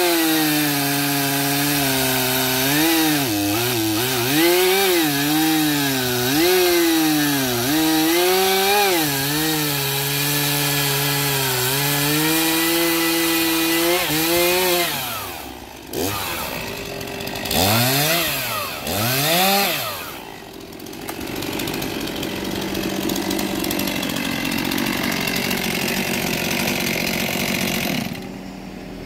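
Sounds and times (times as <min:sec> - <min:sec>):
chainsaw cutting log: 0:00.0 - 0:28.4
chainsaw revving: 0:00.0 - 0:28.4
chainsaw idling: 0:00.0 - 0:28.6.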